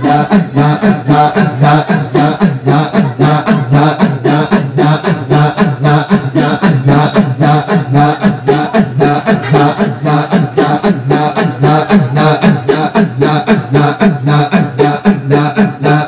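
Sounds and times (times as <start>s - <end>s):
men chanting a cappella: 0.0s - 16.0s.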